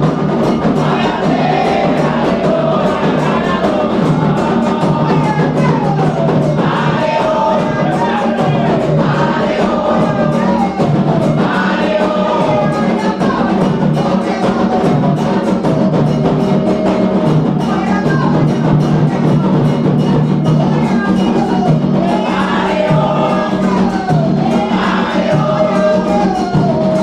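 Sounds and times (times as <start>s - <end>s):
group of voices chanting: 0.0s - 17.3s, 20.8s - 27.0s
hand drums beating: 0.0s - 27.0s.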